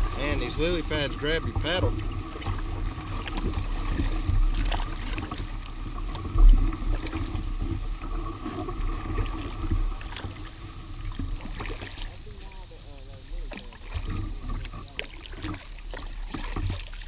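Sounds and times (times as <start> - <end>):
paddle splashing water: 0.0 - 17.0
water against hull: 0.0 - 17.0.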